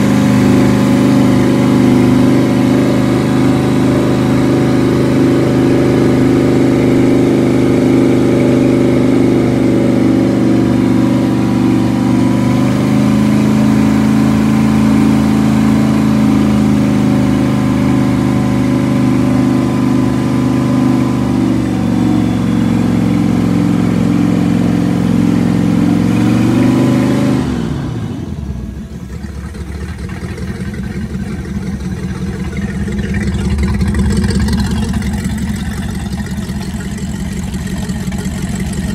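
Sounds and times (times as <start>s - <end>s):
boat engine revving and idling: 0.0s - 38.9s.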